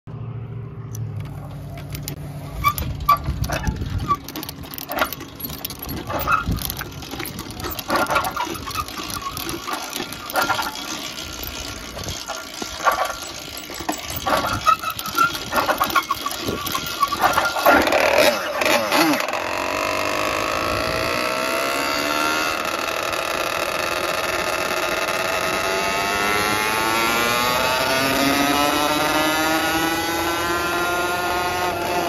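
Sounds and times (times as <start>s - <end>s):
motorized bicycle chain rattling: 1.0s - 32.0s.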